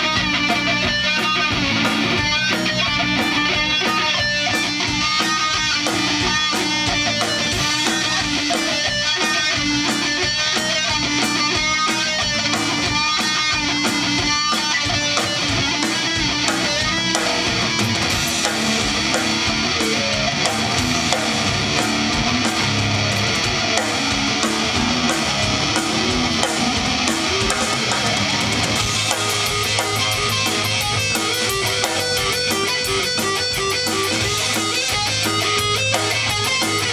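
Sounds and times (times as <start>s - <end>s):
electric guitars: 0.0s - 36.9s
punk rock band playing: 0.0s - 36.9s.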